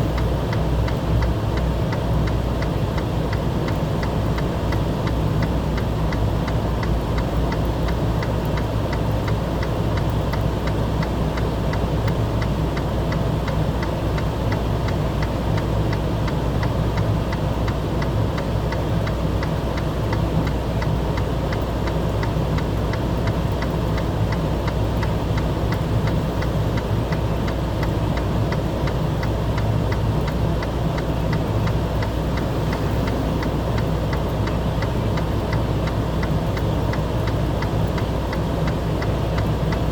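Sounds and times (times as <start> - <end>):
engine running with ticking: 0.0 - 39.9.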